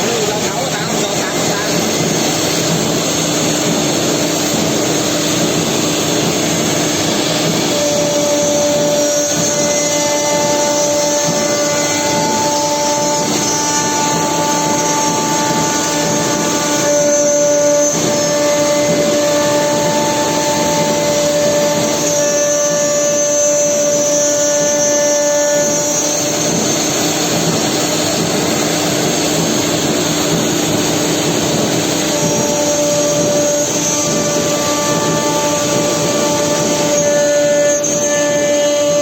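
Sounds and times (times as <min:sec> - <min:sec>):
router machine noise: 0:00.0 - 0:39.0
spindle whine: 0:00.0 - 0:39.0.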